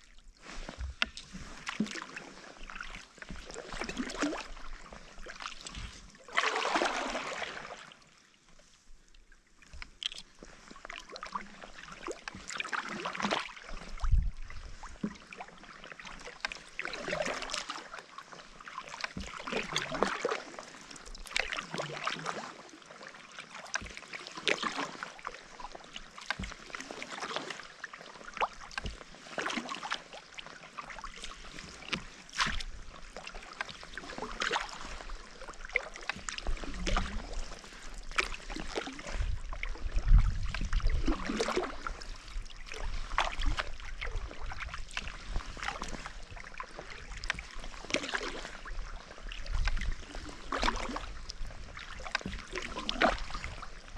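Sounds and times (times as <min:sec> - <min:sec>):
paddle splashing in water: 0:00.0 - 0:53.9.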